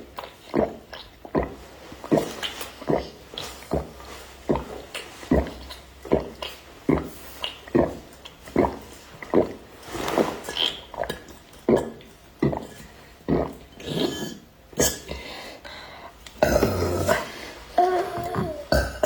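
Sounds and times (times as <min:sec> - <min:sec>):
loud gulping of a drink: 0:00.0 - 0:15.4, 0:16.1 - 0:19.0.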